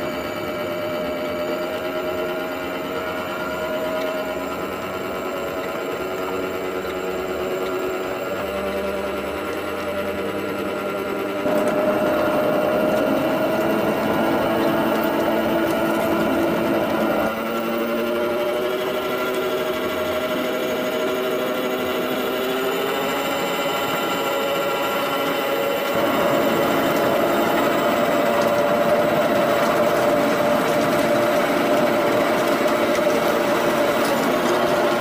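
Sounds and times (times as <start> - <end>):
drive motor whine: 0.0 - 35.0
wheels rolling on rails: 0.0 - 35.0.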